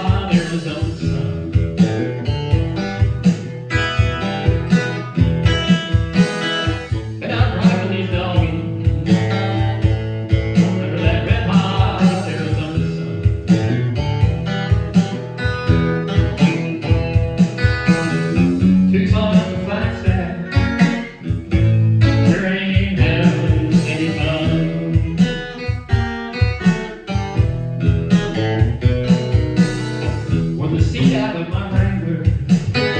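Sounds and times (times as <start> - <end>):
picked acoustic guitar: 0.0 - 32.9
sliding guitar lead line: 0.0 - 32.9.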